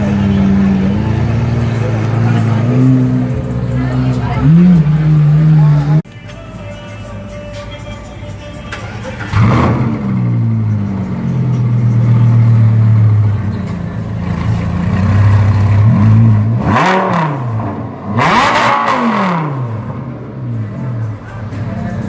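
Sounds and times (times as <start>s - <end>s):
car engine idling and revving: 0.0s - 6.4s, 7.0s - 22.0s.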